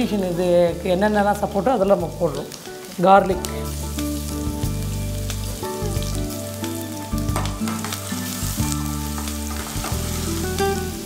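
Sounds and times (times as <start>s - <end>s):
background music with low notes: 0.0s - 11.0s
garlic sizzling in hot oil: 0.0s - 11.0s.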